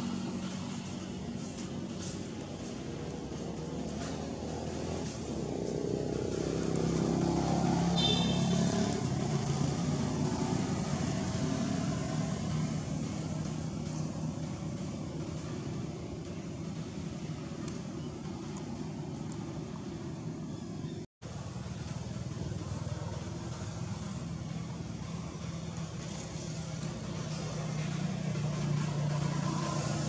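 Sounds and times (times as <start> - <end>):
vehicle engine passing: 0.0 - 20.6, 21.3 - 30.0.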